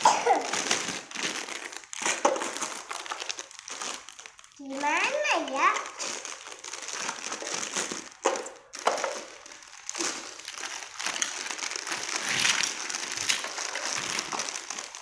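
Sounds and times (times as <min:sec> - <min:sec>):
plastic bag crinkling: 0:00.0 - 0:15.0
plastic pieces knocking: 0:00.0 - 0:15.0.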